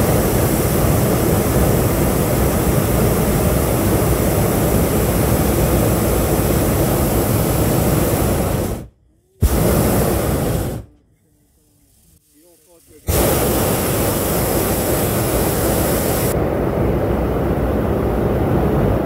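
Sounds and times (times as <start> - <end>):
propane burner blasting: 0.0 - 11.0, 11.9 - 19.0.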